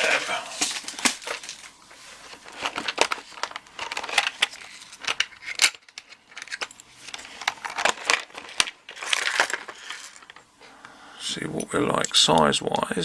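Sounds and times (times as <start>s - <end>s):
rustling: 0.0s - 10.8s.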